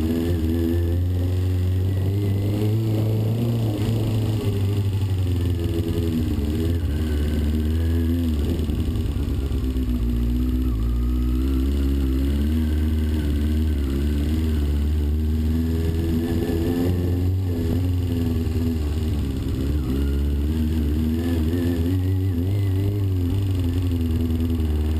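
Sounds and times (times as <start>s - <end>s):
motorcycle engine idling: 0.0s - 24.9s
engine knock: 3.4s - 24.9s.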